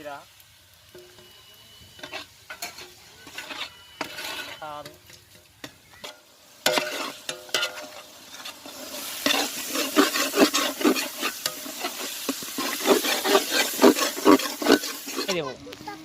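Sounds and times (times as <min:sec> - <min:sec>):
food sizzling in hot oil: 0:00.0 - 0:16.0
spoon stirring and scraping pan: 0:00.9 - 0:15.5.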